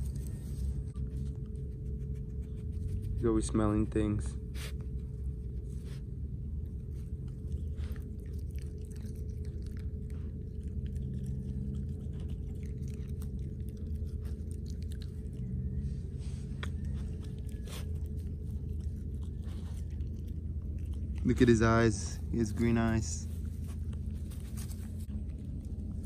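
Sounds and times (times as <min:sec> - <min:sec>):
dog chewing and licking grass: 0:00.0 - 0:26.0
steady low rumble: 0:00.0 - 0:26.0.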